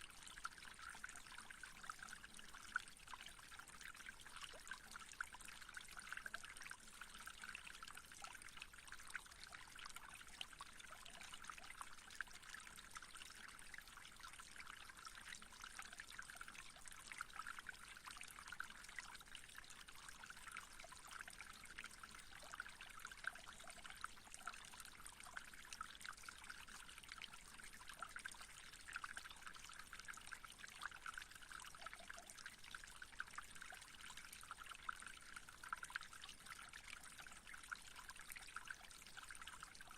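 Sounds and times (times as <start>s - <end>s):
faint trickle of running water: 0.0s - 39.9s.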